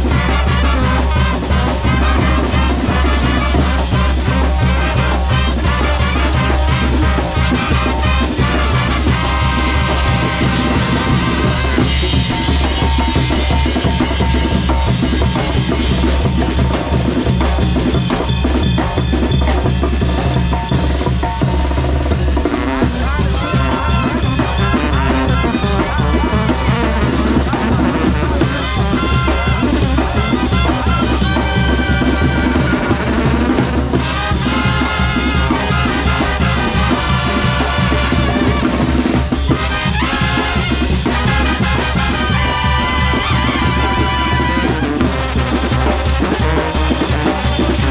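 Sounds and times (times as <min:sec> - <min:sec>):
snare drum rolls: 0:00.0 - 0:25.6, 0:26.3 - 0:47.9
bass drum: 0:00.0 - 0:47.9
brass melody: 0:00.0 - 0:47.9.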